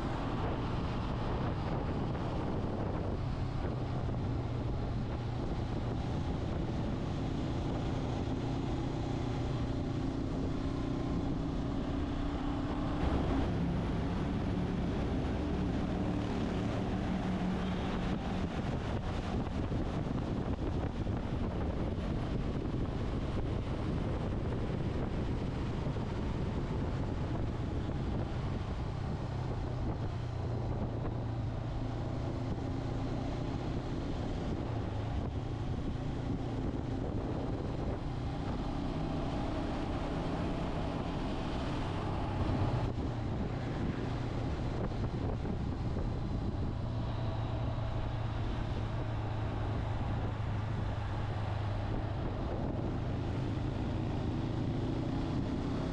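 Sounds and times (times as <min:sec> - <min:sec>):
wind noise on microphone: 0:00.0 - 0:55.9.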